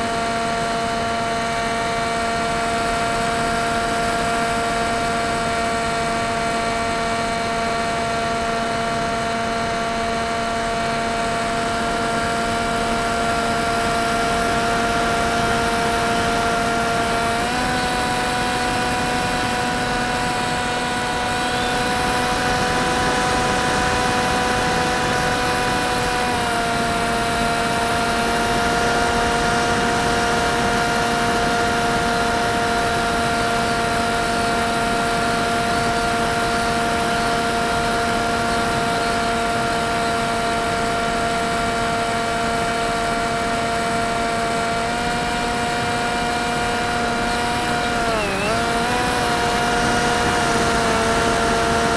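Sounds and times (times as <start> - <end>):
electric motor and propeller whining: 0.0 - 51.9.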